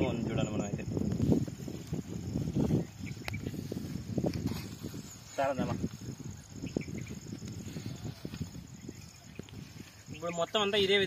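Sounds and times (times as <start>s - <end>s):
high insect trill: 0.0s - 11.0s
net rustling through grass: 0.9s - 11.0s.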